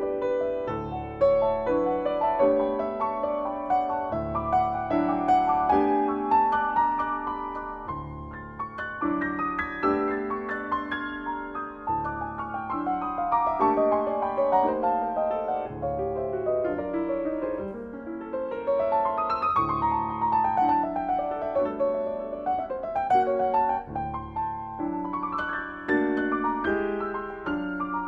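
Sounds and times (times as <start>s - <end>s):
solo jazz piano: 0.0s - 28.0s.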